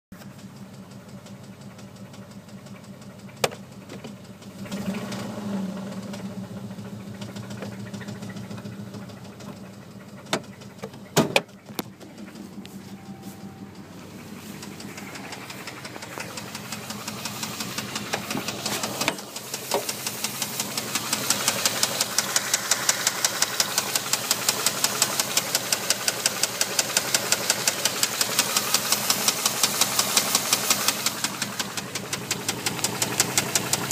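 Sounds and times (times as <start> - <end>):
engine running with knock: 0.2 - 33.9.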